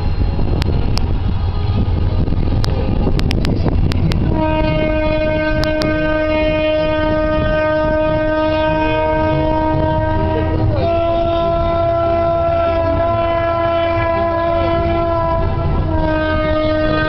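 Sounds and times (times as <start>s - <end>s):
low rumble of moving train: 0.0s - 17.0s
train horn blast: 0.0s - 17.0s.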